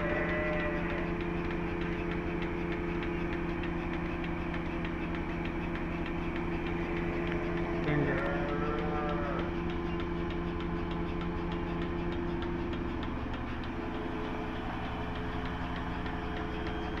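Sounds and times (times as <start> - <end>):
machine humming with pulsing beat: 0.0 - 17.0.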